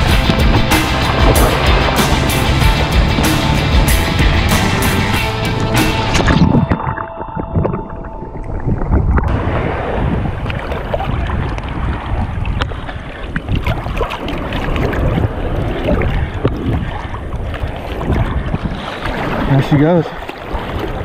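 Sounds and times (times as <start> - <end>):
surf water sloshing and splashing: 0.0 - 21.0
wind buffeting microphone: 0.0 - 21.0.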